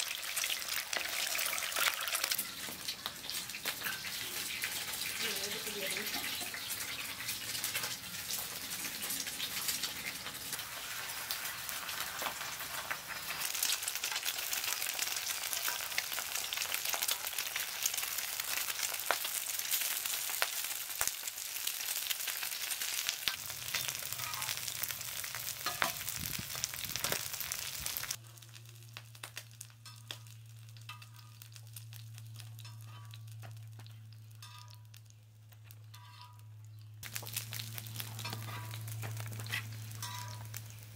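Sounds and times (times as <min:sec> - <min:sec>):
eggs sizzling on a griddle: 0:00.0 - 0:40.9.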